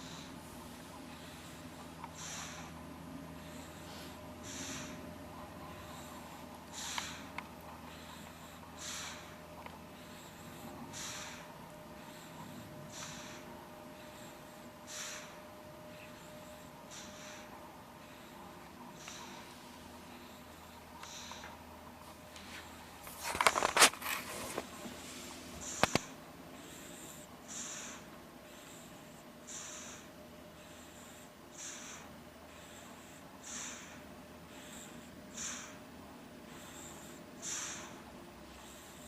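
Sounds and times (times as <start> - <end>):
baby snoring softly: 0.0 - 21.6, 25.6 - 39.0.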